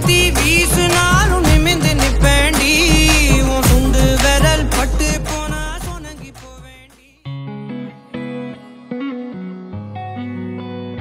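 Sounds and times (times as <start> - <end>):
instrumental guitar music: 0.0 - 11.0.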